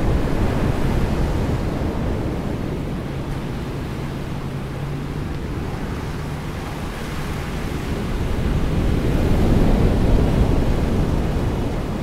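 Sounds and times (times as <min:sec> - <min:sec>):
surf washing up a beach: 0:00.0 - 0:12.0.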